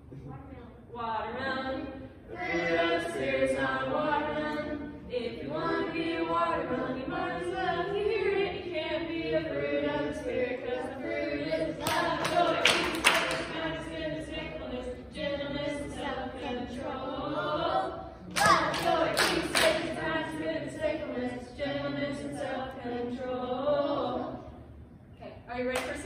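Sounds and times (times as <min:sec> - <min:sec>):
voices singing unaccompanied: 0:01.0 - 0:24.7.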